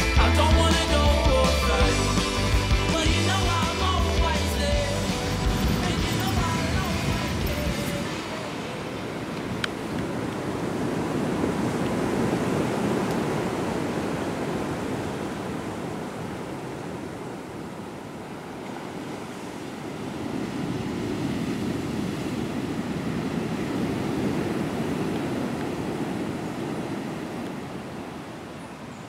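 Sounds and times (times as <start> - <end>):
surf breaking on rocky shore: 0.1 - 28.9.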